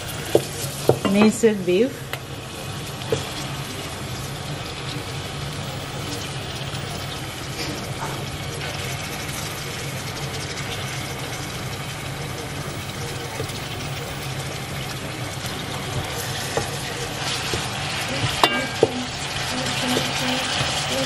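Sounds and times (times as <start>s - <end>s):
food sizzling and bubbling: 0.0s - 21.0s.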